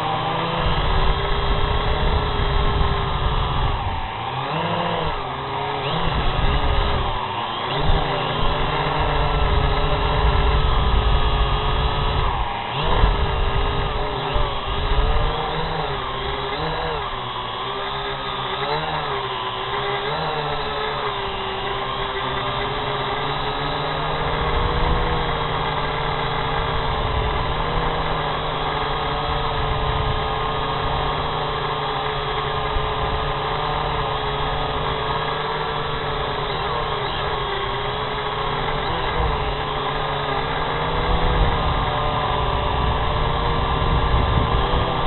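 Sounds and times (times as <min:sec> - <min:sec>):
drone motors and propellers whining: 0:00.0 - 0:45.0.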